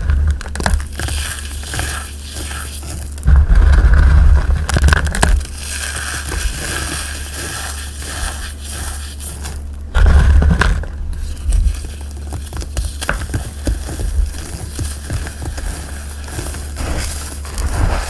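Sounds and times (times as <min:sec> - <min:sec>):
chalk crunching: 0:00.0 - 0:18.0.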